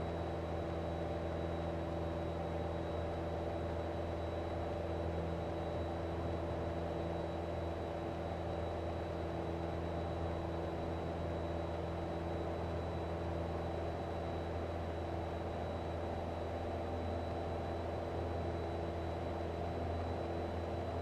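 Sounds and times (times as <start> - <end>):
aircraft engine and propeller droning: 0.0 - 21.0.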